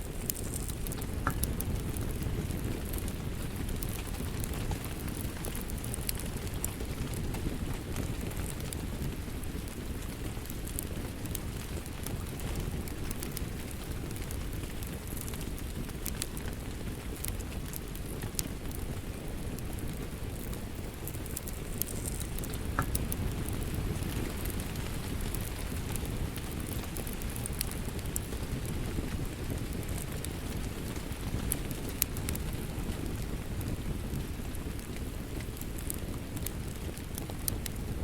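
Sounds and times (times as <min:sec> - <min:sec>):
steady rain: 0:00.0 - 0:38.0
wood fire crackling: 0:00.0 - 0:38.0.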